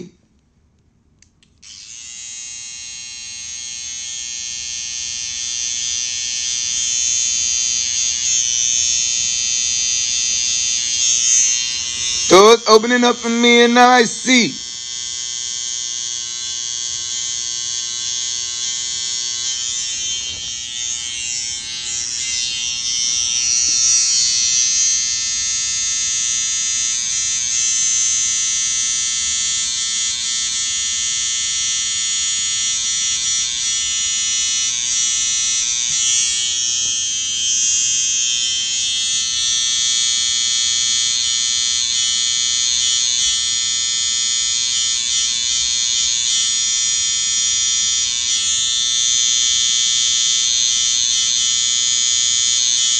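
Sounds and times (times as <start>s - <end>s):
electric hair clippers buzzing: 1.4s - 52.9s.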